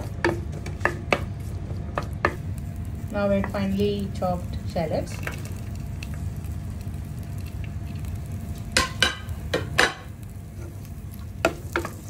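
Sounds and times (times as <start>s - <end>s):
shallots sizzling in oil: 0.0s - 12.0s.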